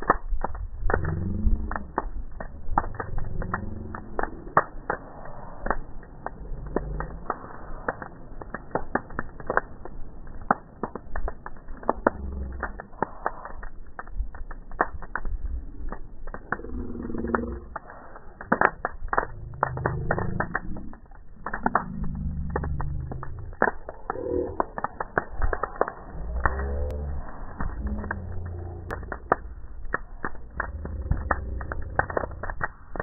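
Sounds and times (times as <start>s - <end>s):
bonfire crackling and popping: 0.0s - 33.0s
low rumble: 0.0s - 33.0s.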